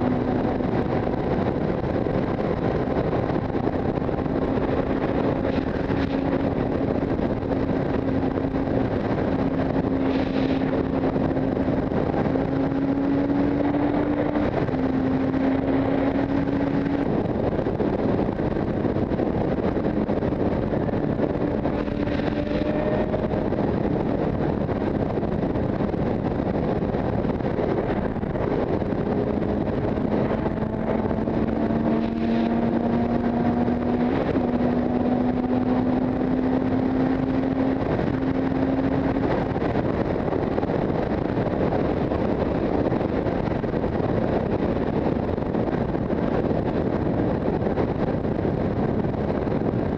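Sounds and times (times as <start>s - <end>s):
motorcycle engine running: 0.0s - 49.9s
road noise: 0.0s - 49.9s
wind noise: 0.0s - 49.9s.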